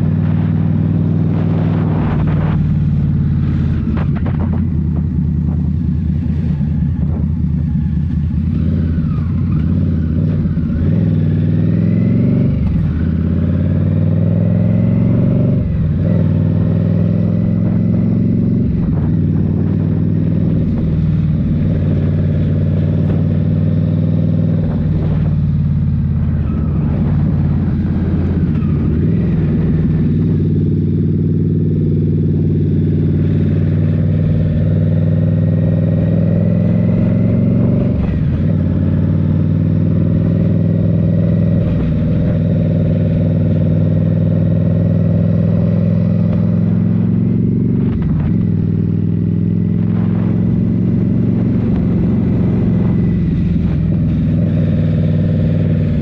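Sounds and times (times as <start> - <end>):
v-twin motorcycle engine: 0.0 - 56.0.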